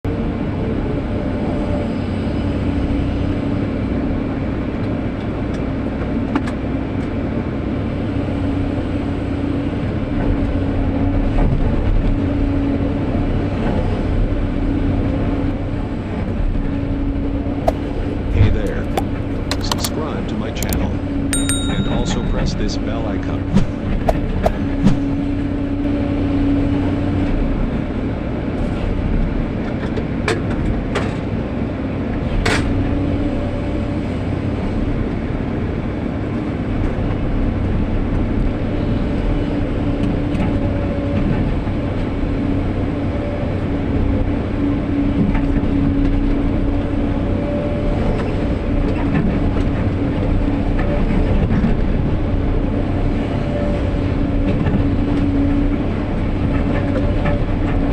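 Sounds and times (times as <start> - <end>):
excavator diesel engine: 0.1 - 57.9.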